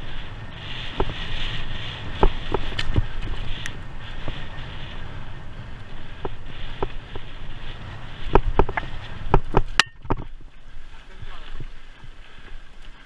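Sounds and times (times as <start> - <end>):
bike knocking and rattling: 0.0 - 13.0
wind and tyres rumbling: 0.0 - 13.0.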